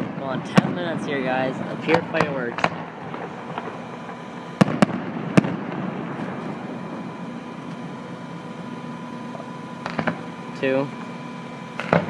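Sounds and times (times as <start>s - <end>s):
fireworks bangs and crackle: 0.0s - 10.4s, 11.7s - 12.0s.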